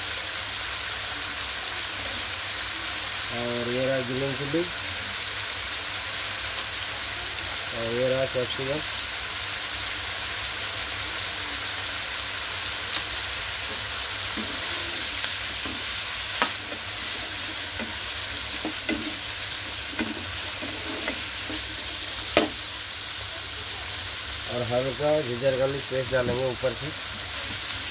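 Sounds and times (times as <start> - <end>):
chicken sizzling in a pan: 0.0 - 27.9.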